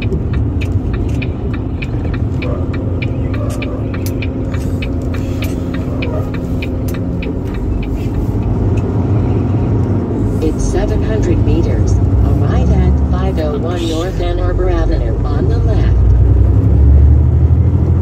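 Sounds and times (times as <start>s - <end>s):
constant hum: 0.0s - 16.7s
truck engine rumble: 0.0s - 18.0s.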